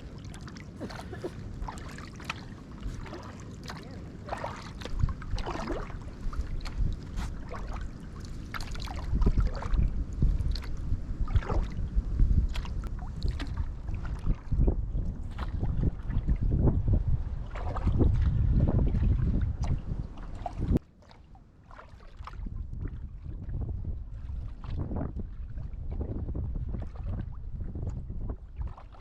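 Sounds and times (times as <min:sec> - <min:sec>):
wind rumbling on microphone: 0:00.0 - 0:20.8, 0:21.9 - 0:29.0
paddles splashing in water: 0:00.0 - 0:23.5, 0:24.2 - 0:29.0.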